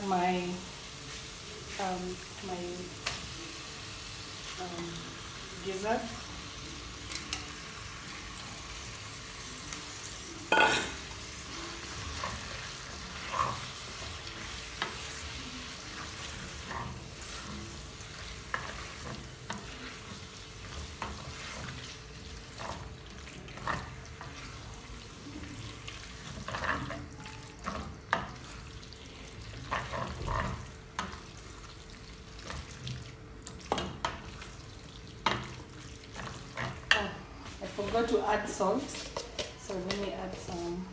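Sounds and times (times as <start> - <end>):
food sizzling in oil: 0.0 - 40.7.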